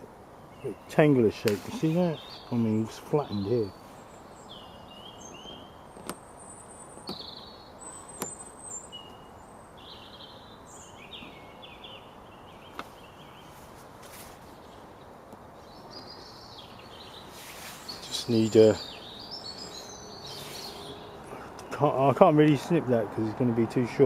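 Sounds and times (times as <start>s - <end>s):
low background hiss: 0.0s - 24.0s
small birds chirping: 0.3s - 24.0s.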